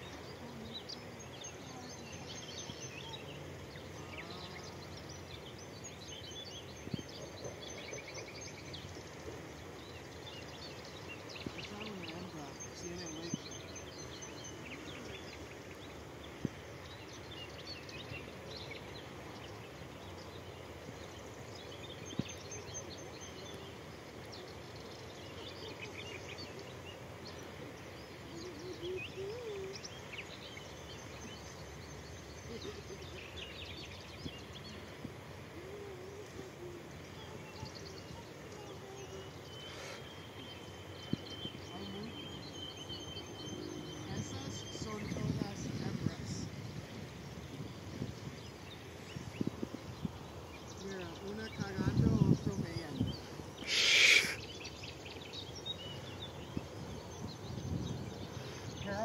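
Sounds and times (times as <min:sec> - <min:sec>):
birds chirping and calling: 0:00.0 - 0:59.0
outdoor background hiss: 0:00.0 - 0:59.0.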